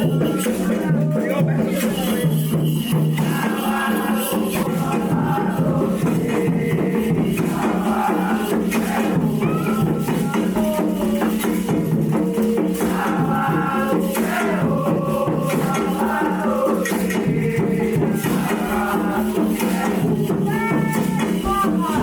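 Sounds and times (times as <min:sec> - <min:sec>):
group of voices singing: 0:00.0 - 0:22.0
hand percussion: 0:00.0 - 0:22.0
shaken rattles: 0:01.8 - 0:22.0.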